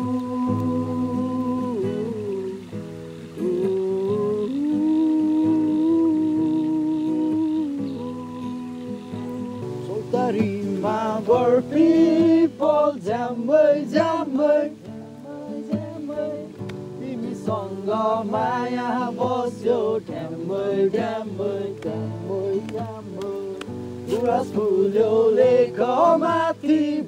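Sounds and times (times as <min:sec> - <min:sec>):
person singing: 0:00.0 - 0:27.0.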